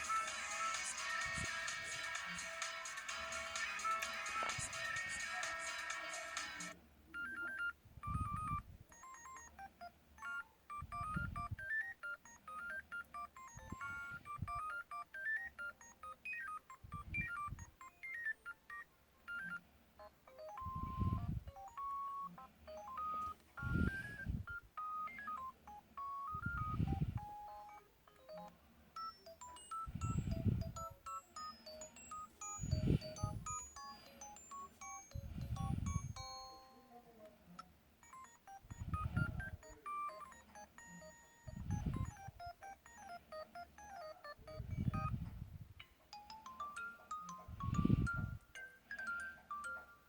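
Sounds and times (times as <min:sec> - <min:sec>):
electronic phone ringtone melody: 0:00.0 - 0:37.0, 0:38.0 - 0:45.3, 0:46.0 - 0:50.0.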